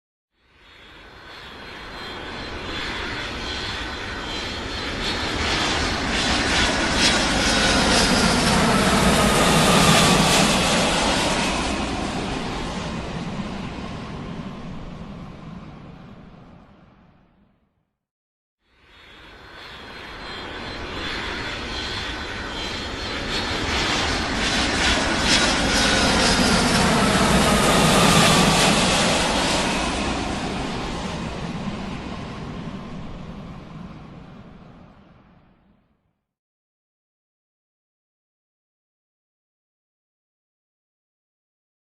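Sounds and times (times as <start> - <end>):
airplane engines roaring: 0.6 - 17.4, 18.9 - 35.9.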